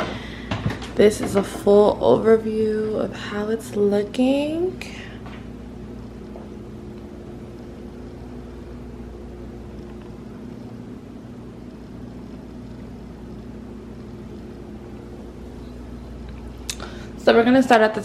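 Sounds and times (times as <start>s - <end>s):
refrigerator humming: 0.0s - 18.0s.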